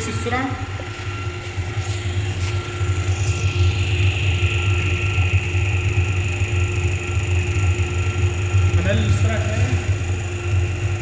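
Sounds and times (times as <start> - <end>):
motor generator set humming: 0.0 - 11.0.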